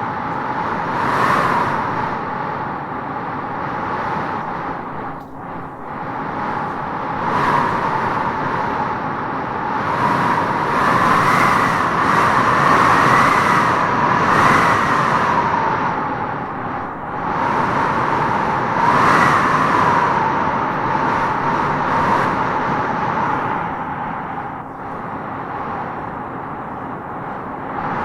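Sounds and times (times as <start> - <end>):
wind howling through trees: 0.0 - 28.0.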